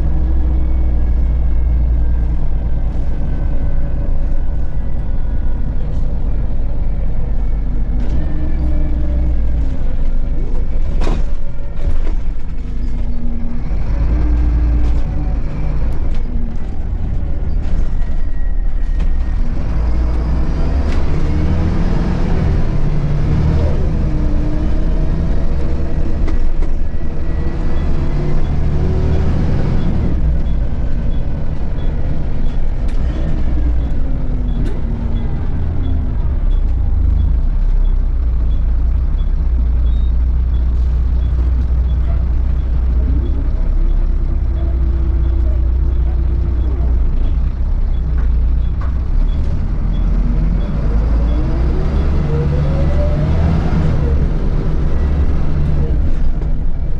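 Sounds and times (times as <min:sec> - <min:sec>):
bus body rattles and knocks: 0:00.0 - 0:50.7
bus diesel engine rumble: 0:00.0 - 0:56.9.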